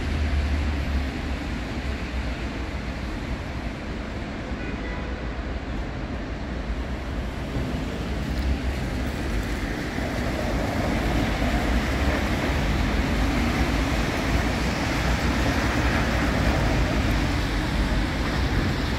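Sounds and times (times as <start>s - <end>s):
cars driving past on wet street: 0.0s - 18.9s.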